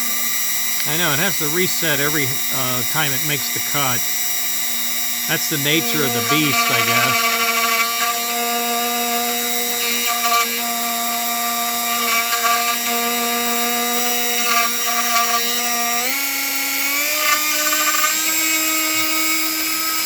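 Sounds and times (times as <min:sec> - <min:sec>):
rotary tool whine: 0:00.0 - 0:20.0.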